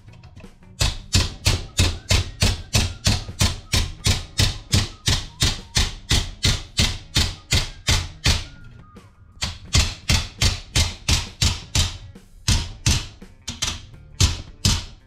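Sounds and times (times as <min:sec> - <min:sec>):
hammer blows on steel: 0:00.8 - 0:08.8, 0:09.4 - 0:15.0.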